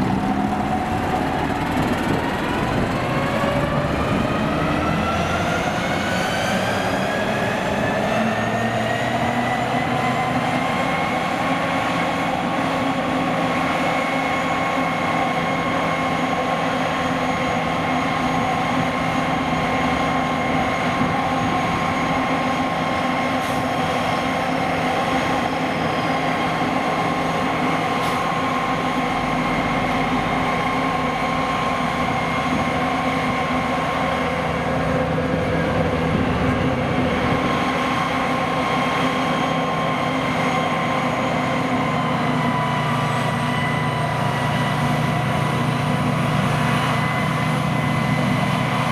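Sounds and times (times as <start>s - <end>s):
heavy machinery engine running: 0.0s - 48.9s.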